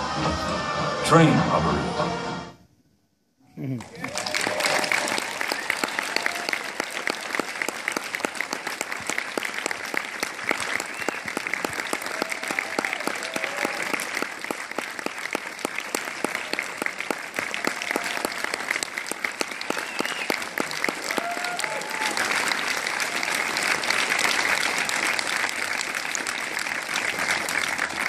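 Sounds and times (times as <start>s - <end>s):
audience applauding: 3.7s - 28.0s.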